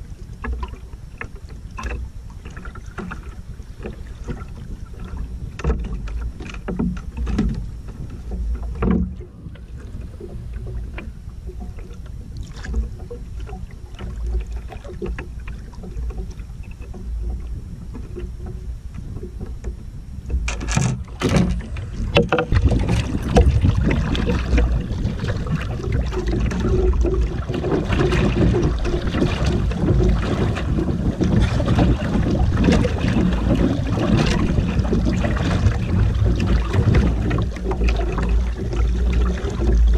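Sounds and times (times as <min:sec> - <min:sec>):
water slapping against hull: 0:00.0 - 0:39.9
wind buffeting microphone: 0:01.7 - 0:39.9.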